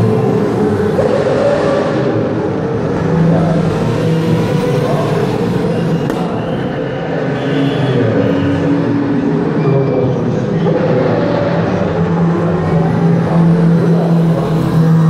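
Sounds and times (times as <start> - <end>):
racing car engines: 0.0 - 15.0.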